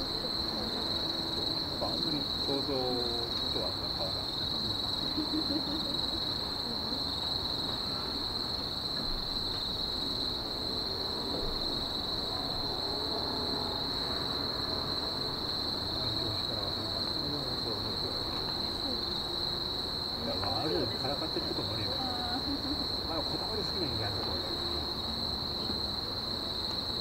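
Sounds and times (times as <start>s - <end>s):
distant voices murmuring: 0.0s - 8.2s, 12.3s - 25.9s
crickets chirring: 0.0s - 27.0s.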